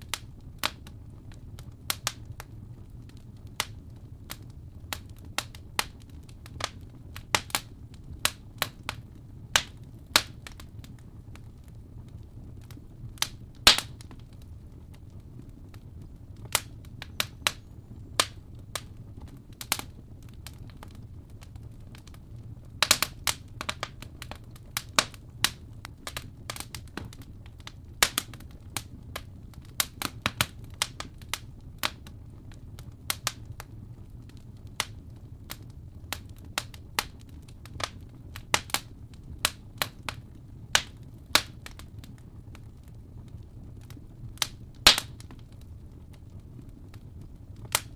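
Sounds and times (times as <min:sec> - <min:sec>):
fire crackling and popping: 0:00.0 - 0:47.9
low steady fire rumble: 0:00.0 - 0:47.9.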